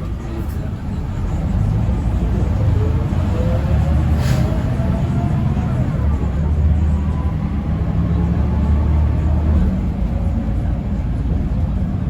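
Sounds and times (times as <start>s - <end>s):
bus engine drone with whine: 0.0s - 12.0s.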